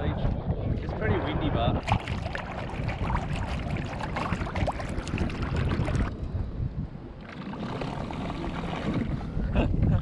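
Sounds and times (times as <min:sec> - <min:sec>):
wind on microphone: 0:00.0 - 0:10.0
water splashing along a canoe: 0:00.6 - 0:06.2, 0:07.1 - 0:10.0.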